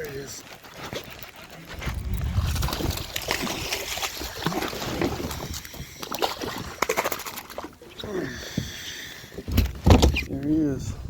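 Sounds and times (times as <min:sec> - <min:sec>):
water splashing at kayak side: 0:00.0 - 0:10.4.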